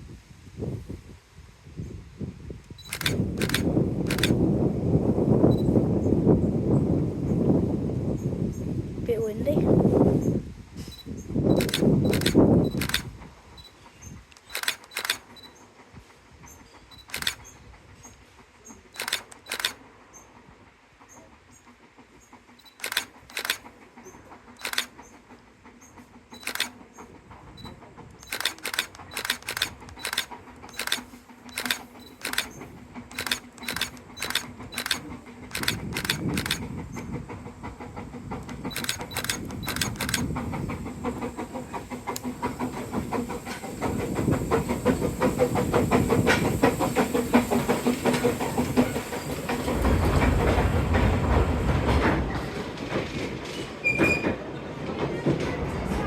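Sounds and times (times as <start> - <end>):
train rumbling hum: 0.0 - 56.0
train wheels clicking over rail joints: 2.6 - 56.0.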